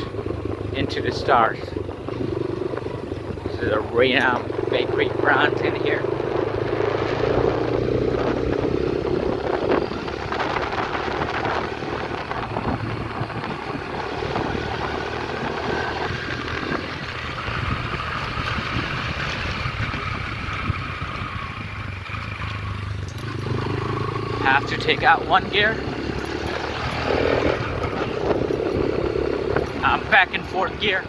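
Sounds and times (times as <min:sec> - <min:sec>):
wind noise on microphone: 0:00.0 - 0:24.8, 0:25.4 - 0:31.0
motorcycle engine running: 0:00.0 - 0:31.0
road noise: 0:00.0 - 0:31.0.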